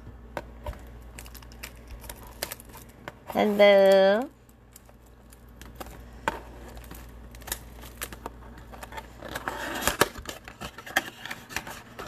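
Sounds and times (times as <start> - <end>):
packaging rustling: 0.6 - 12.0.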